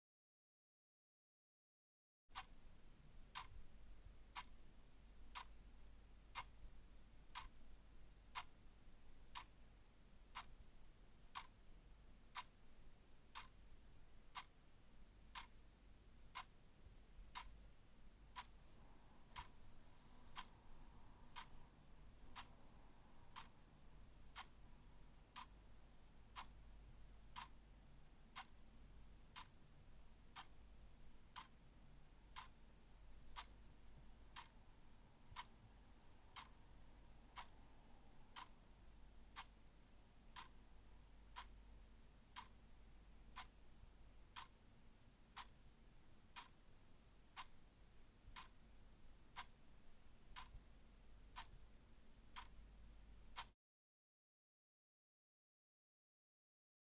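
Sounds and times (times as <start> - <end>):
faint low hum: 2.3 - 53.5
faint clock ticking: 2.3 - 53.6.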